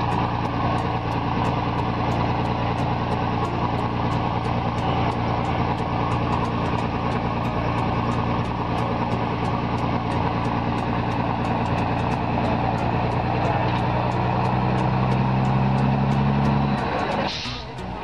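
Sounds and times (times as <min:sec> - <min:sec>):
truck diesel engine droning: 0:00.0 - 0:18.0.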